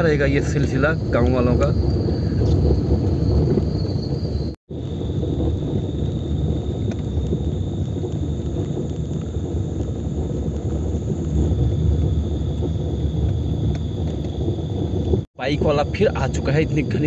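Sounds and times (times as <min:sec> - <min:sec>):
crickets chirring: 0:00.0 - 0:17.0
loud low rumble: 0:00.0 - 0:17.0.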